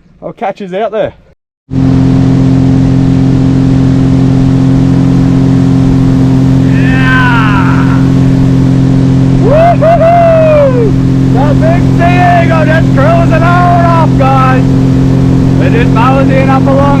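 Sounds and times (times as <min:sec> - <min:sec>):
outboard motor droning: 0:01.7 - 0:17.0.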